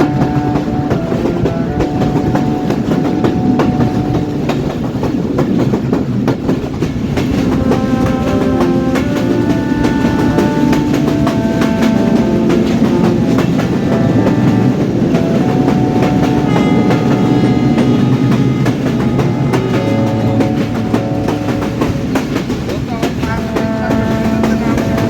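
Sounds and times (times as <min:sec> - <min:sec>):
train rumbling on rails: 0:00.0 - 0:25.0
wheels clattering over rail joints: 0:00.0 - 0:25.0.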